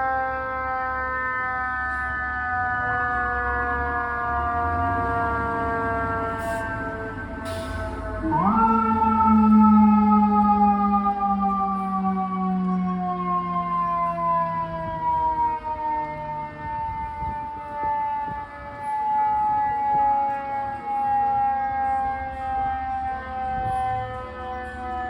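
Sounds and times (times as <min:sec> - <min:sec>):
truck engine rumble: 0:00.0 - 0:25.0
mechanical siren winding down: 0:00.7 - 0:25.0.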